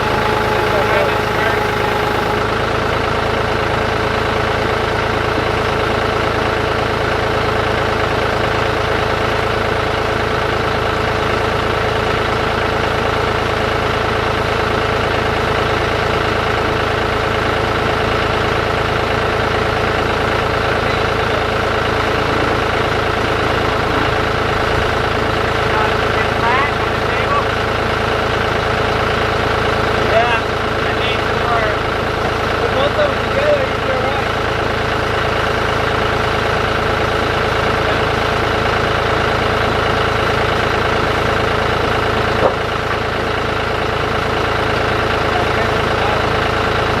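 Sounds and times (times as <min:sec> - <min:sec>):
tractor engine idling: 0:00.0 - 0:47.0.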